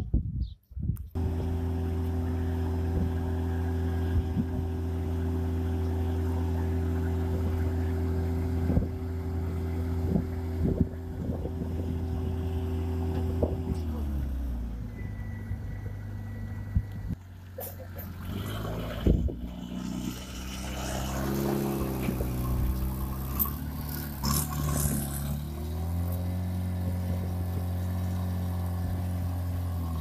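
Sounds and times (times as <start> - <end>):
engine running: 1.1 - 30.0.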